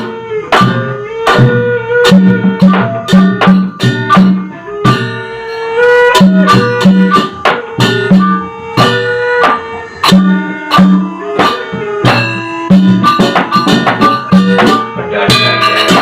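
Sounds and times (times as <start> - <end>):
drum strokes: 0.0 - 16.0
ringing struck metal tones: 0.0 - 16.0.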